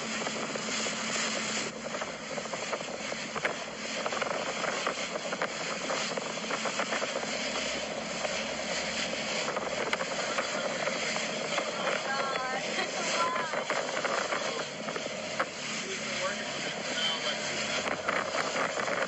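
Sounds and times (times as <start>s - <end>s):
boat motor drone: 0.0s - 19.0s
wind and water hiss: 0.0s - 19.0s.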